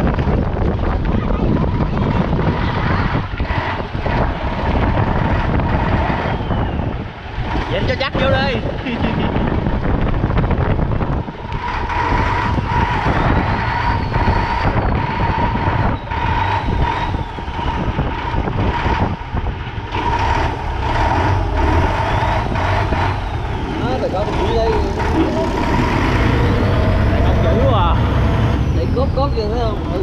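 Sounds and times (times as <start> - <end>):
boat engine rumbling: 0.0 - 30.0
steady whine: 0.0 - 30.0
wind gusting on microphone: 0.0 - 30.0.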